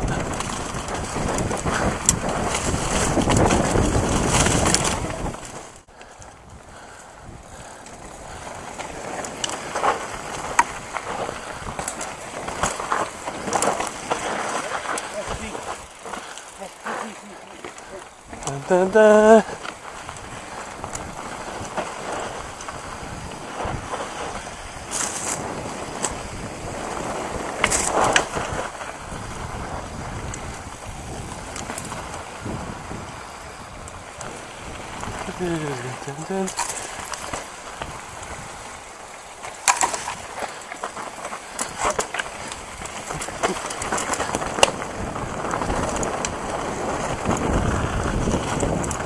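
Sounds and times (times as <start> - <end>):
bike knocking on rocks: 0.0 - 5.7, 7.4 - 32.5, 36.2 - 49.0
wind rush on microphone: 0.0 - 40.6, 41.2 - 49.0
bike rattling: 0.0 - 49.0
tyres on loose ground: 0.0 - 49.0.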